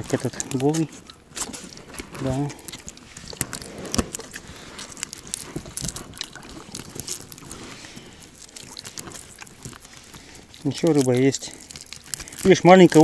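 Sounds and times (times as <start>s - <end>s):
crackling clicks and knocks: 0.0s - 13.0s.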